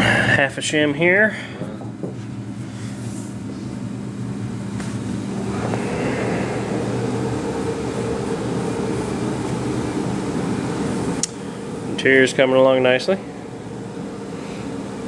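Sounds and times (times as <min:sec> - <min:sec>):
fan machine humming: 0:00.0 - 0:15.0.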